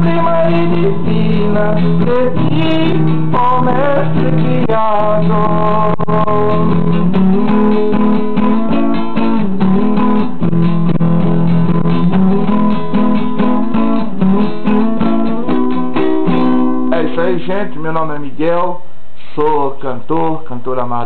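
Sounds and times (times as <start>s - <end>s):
acoustic guitar strumming chords: 0.0s - 19.6s.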